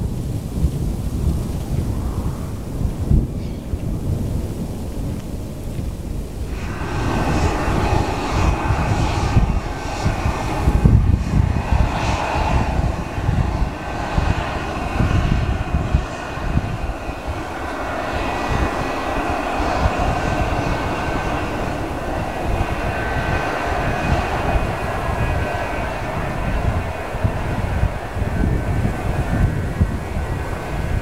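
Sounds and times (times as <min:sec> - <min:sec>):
low rumble: 0:00.0 - 0:31.0
jet engines whining: 0:00.2 - 0:31.0.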